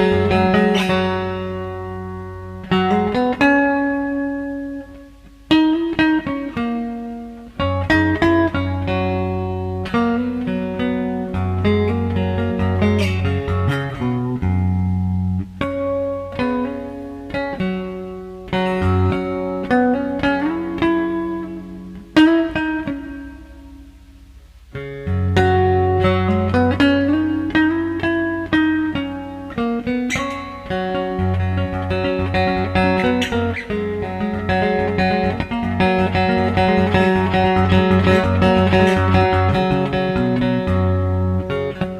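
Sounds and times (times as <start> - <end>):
resonator guitar plucked: 0.0 - 41.9.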